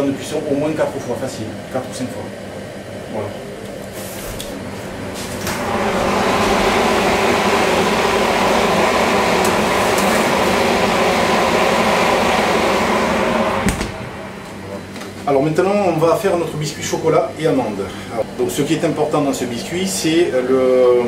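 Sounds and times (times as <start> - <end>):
oven fan humming: 0.0 - 21.0.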